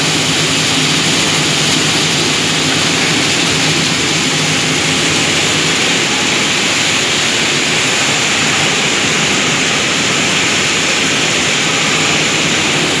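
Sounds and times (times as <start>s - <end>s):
processing machinery running: 0.0s - 13.0s
strong hiss: 0.0s - 13.0s.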